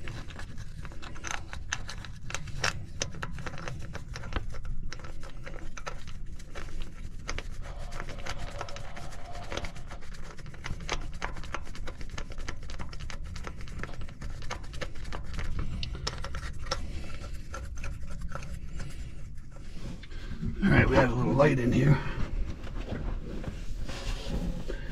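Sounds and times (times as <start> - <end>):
light clicks and scrapes of metal parts: 0.0 - 20.4.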